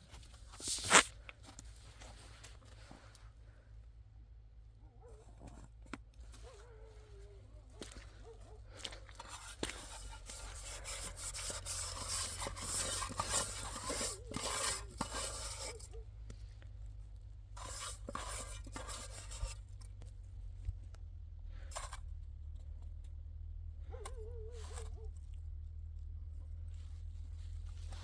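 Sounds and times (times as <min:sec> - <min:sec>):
scraping and rustling of objects: 0:00.0 - 0:03.4, 0:05.0 - 0:23.2, 0:23.9 - 0:28.0.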